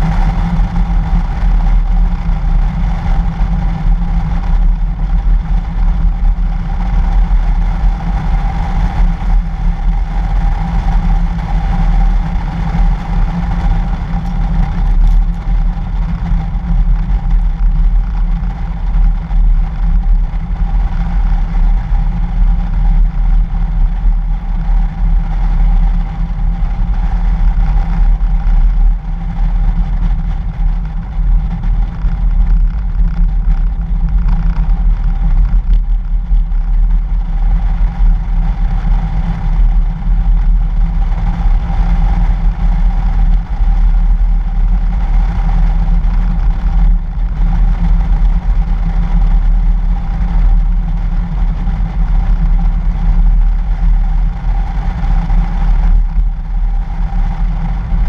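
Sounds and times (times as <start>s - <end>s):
engine and tyres rumbling: 0.0s - 58.0s
mid-pitched hum: 0.0s - 58.0s.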